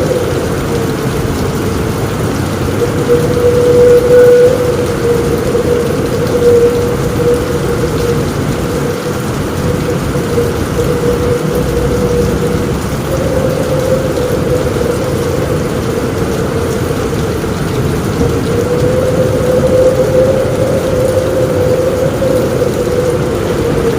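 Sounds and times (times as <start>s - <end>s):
heavy rain on a roof: 0.0s - 23.9s
low rumbling thunder: 0.0s - 23.9s
steady wavering tone: 0.0s - 23.9s.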